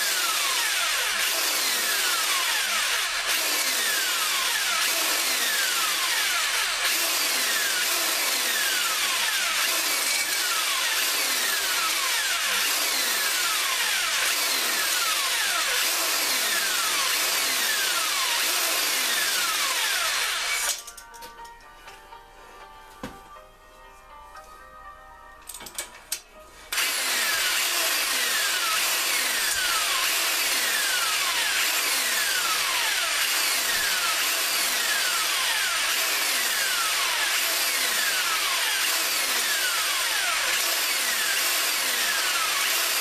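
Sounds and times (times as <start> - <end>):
drill honing cylinder bore: 0.0 - 20.8, 26.7 - 43.0.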